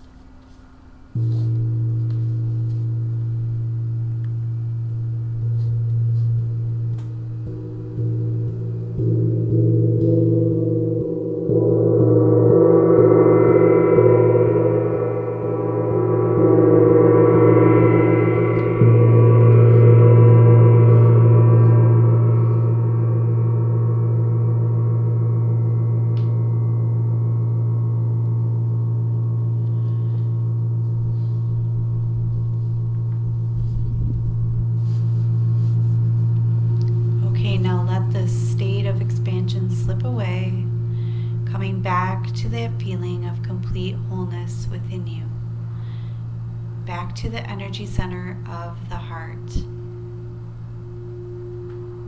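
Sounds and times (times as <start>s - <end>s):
singing bowls ringing: 0.0s - 52.0s.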